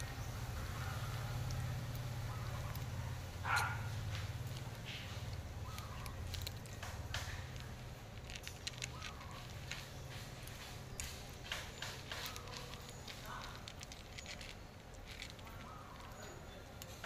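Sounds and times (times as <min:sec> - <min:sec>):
cats crunching dry kibble: 0:00.0 - 0:17.0.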